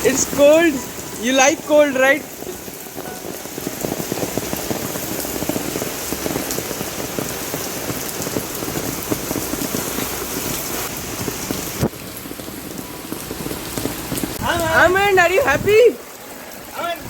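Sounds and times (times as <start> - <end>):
heavy rain pattering on ground: 0.0 - 17.0.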